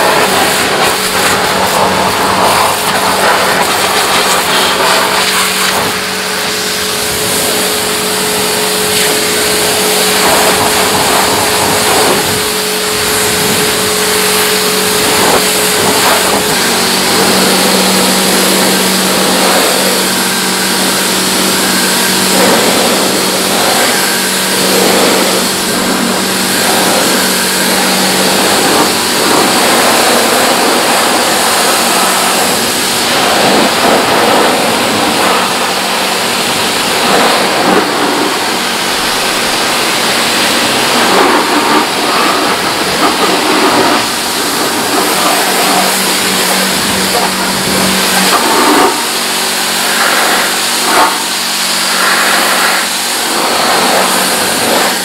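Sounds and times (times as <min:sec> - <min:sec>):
pressure washer jet spattering: 0:00.0 - 0:55.0
steady hum: 0:00.0 - 0:55.0.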